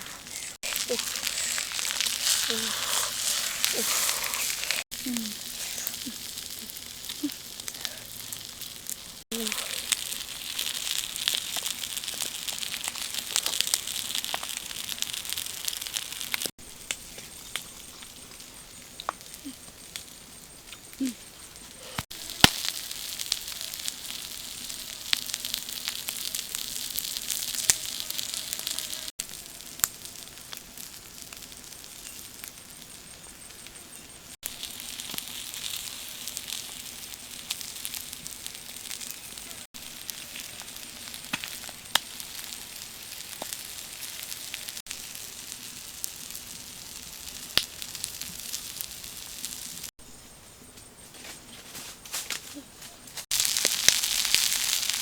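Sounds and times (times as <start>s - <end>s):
fish eggs sizzling and popping: 0.0s - 50.0s, 53.2s - 55.0s.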